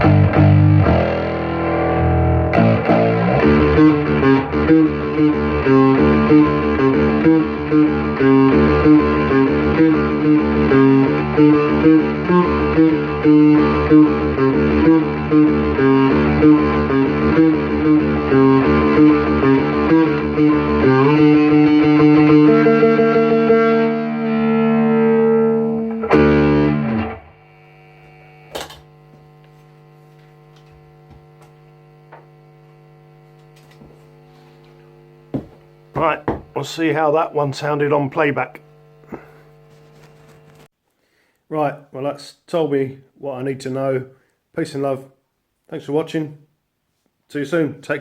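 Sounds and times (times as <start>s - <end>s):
amplifier mains hum: 0.0s - 40.7s
distorted fretless bass guitar: 0.0s - 40.7s.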